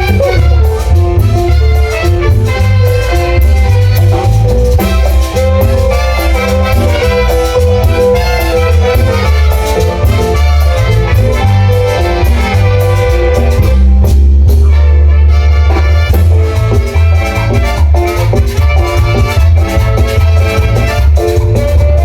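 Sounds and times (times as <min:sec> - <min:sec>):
heavy bass line: 0:00.0 - 0:22.0
latin dance band music: 0:00.0 - 0:22.0.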